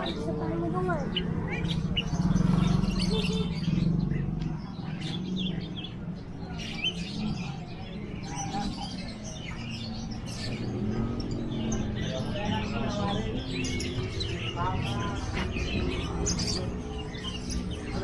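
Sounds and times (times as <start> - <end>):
caged birds chirping: 0.0 - 18.0.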